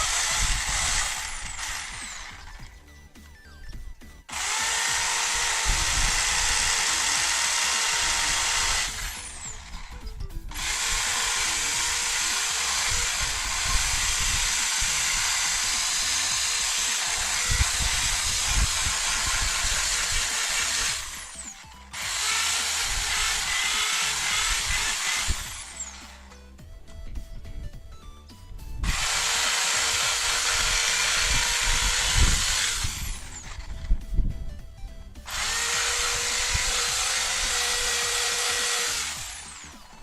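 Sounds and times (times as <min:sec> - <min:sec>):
electric drill drilling metal: 0:00.0 - 0:02.8, 0:04.2 - 0:26.3, 0:28.8 - 0:34.0, 0:35.3 - 0:40.0.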